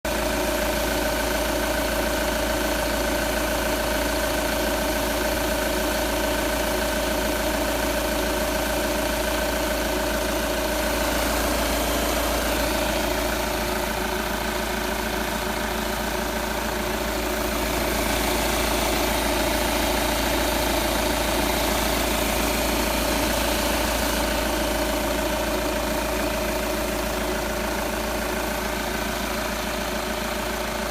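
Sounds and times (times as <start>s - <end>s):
diesel engine idling: 0.1s - 30.9s.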